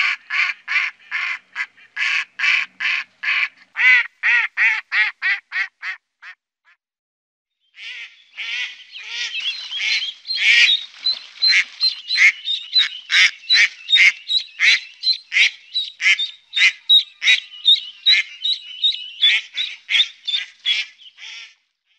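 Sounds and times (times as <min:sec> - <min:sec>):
ducks quacking: 0:00.0 - 0:06.0, 0:07.8 - 0:21.6.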